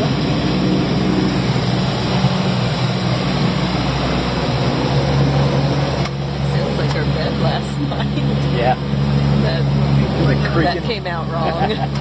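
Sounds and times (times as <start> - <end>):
turboprop engine drone: 0.0 - 12.0.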